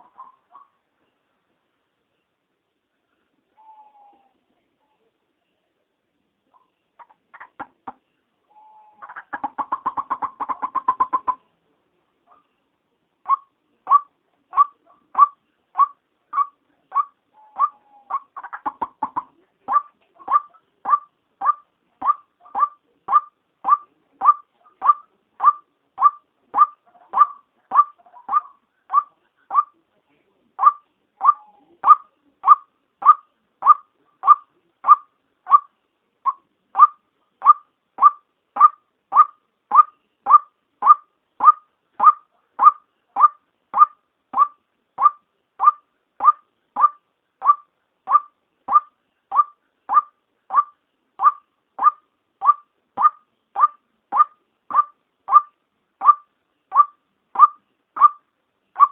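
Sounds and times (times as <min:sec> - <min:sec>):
waterhen calling: 0:03.6 - 0:04.4, 0:06.5 - 0:11.5, 0:13.3 - 0:29.8, 0:30.6 - 0:58.2.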